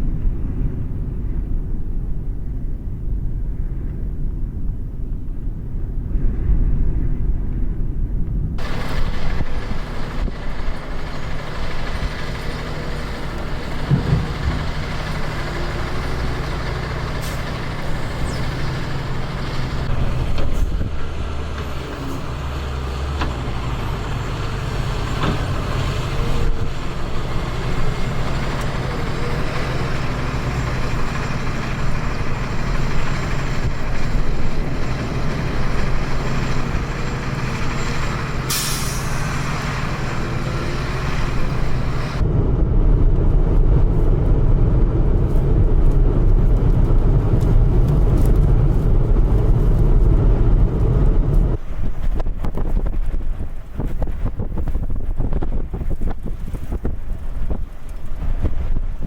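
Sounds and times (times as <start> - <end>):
diesel truck engines droning: 8.5 - 59.0.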